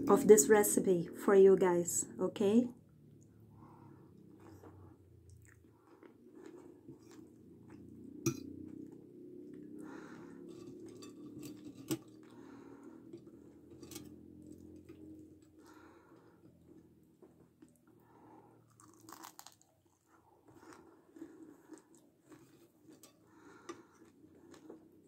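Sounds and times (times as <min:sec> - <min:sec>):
close-up chewing: 0:04.1 - 0:13.8, 0:14.4 - 0:25.0.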